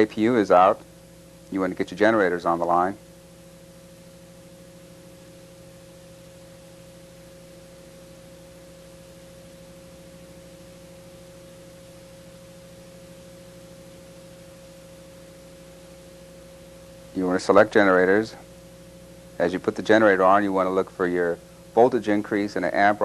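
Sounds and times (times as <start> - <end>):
steady mid-pitched hum: 0.0 - 23.0.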